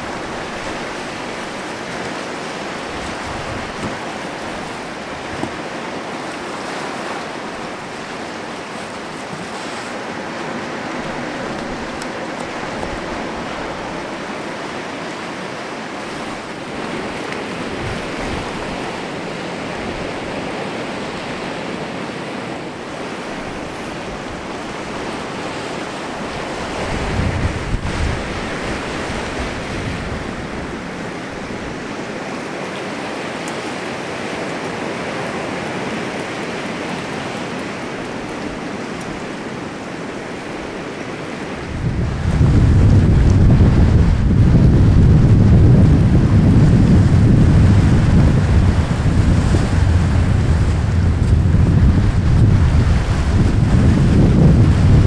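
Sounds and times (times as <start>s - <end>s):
sea surf washing on shore: 0.0s - 55.0s
wind rumbling on microphone: 0.0s - 55.0s.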